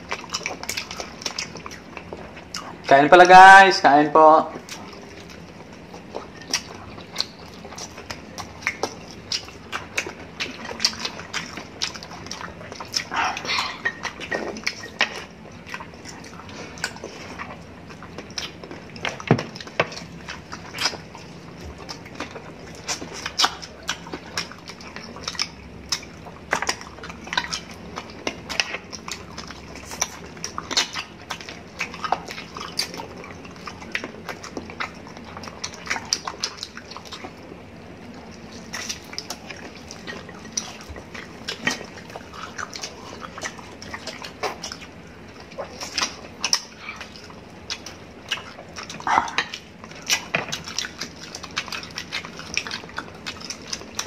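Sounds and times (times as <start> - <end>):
chewing and lip-smacking: 0.0 - 54.0.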